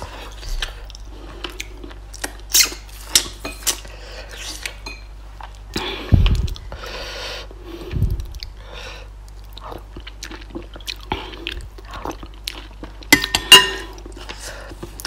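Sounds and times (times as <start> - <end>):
person chewing: 0.0 - 7.0, 7.8 - 15.0.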